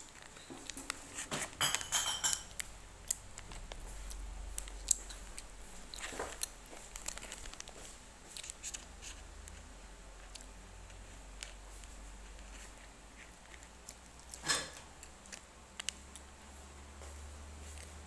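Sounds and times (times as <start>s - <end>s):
plastic wrapper crinkling: 0.0s - 16.2s.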